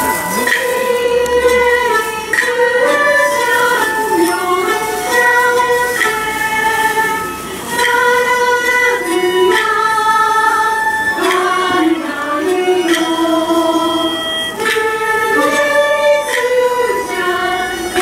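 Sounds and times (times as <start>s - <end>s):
flutes: 0.0s - 18.0s
lutes: 0.0s - 18.0s
woman singing: 0.0s - 18.0s.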